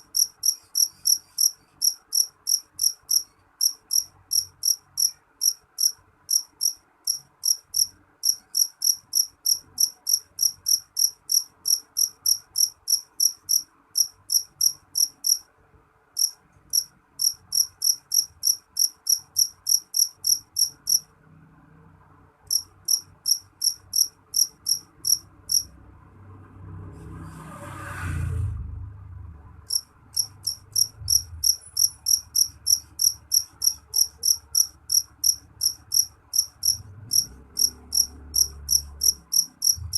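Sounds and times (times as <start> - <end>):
cricket chirping: 0.0 - 15.4, 16.2 - 21.1, 22.4 - 25.7, 29.7 - 39.9.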